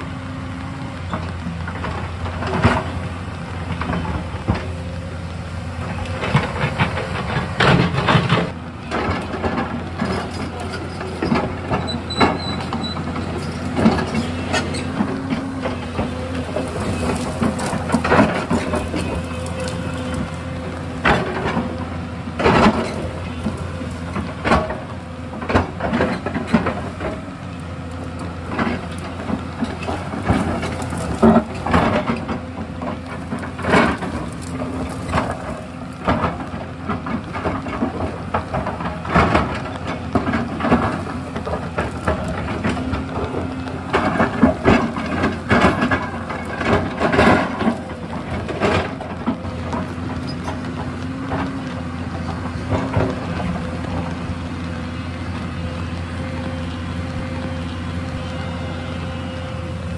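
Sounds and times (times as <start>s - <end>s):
excavator diesel engine: 0.0s - 59.9s
heavy knocks and clanks digging: 5.7s - 59.9s.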